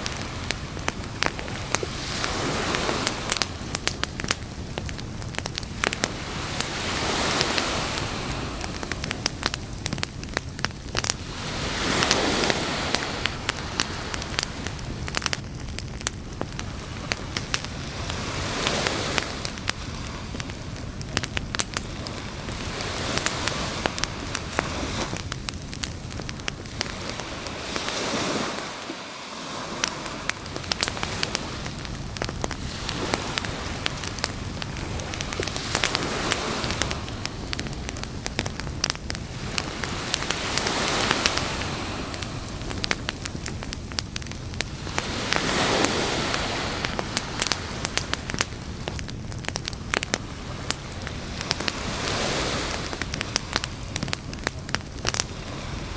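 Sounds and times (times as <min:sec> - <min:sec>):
campfire crackling and popping: 0:00.0 - 0:55.9
surf breaking on beach: 0:00.0 - 0:55.9.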